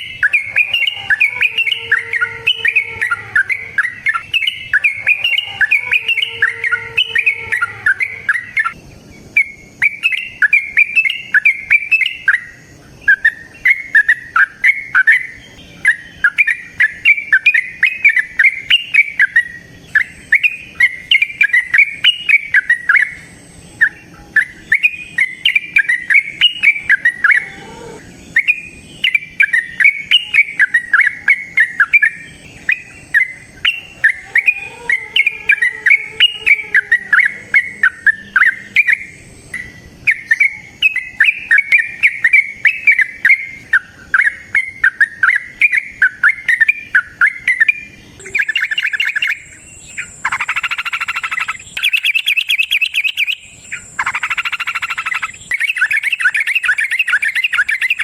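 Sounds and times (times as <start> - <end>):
bird chattering: 0.0 - 58.0
bird singing warbling notes: 0.0 - 58.0.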